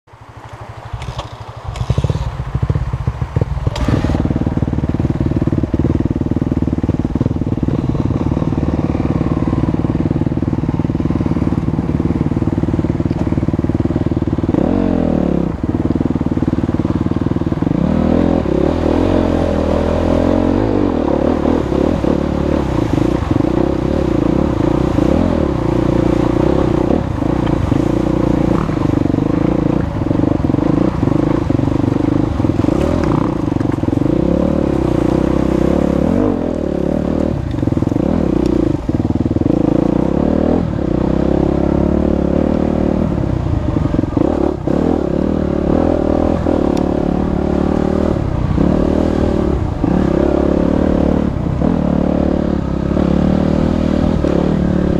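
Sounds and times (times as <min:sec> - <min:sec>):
dirt bike engine revving: 0:01.0 - 0:54.9.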